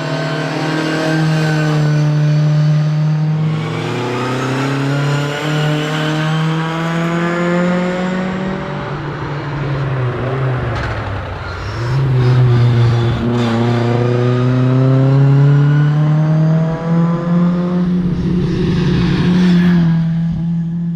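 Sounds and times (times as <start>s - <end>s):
rally car engine accelerating: 0.0s - 20.9s.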